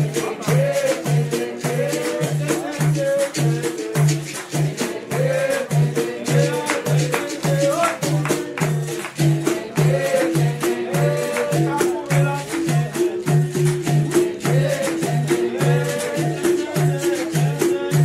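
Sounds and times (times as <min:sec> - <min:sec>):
shaker rattle: 0:00.0 - 0:18.0
tambourine jingle: 0:00.0 - 0:18.0
voices singing: 0:00.0 - 0:18.0.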